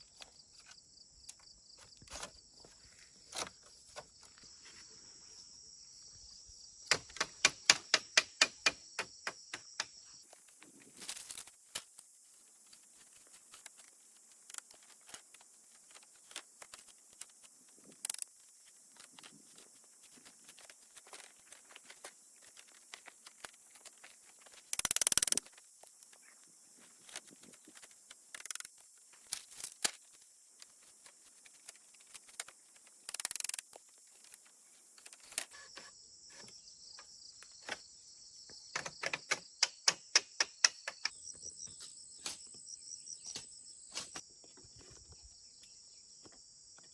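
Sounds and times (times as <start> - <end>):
cricket trilling: 0.0 - 46.9
insects chirping: 0.0 - 46.9.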